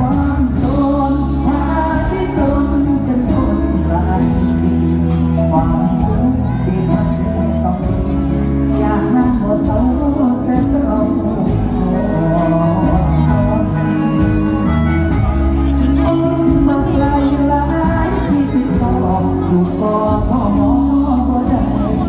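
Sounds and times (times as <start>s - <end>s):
heavy bass: 0.0s - 22.0s
live band music with singing: 0.0s - 22.0s
steady drum beat: 0.0s - 22.0s.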